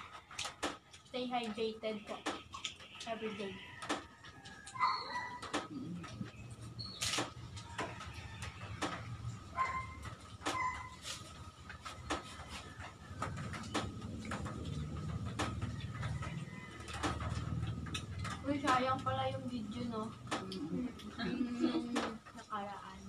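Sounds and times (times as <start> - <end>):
people chewing with smacks: 0.0 - 23.0.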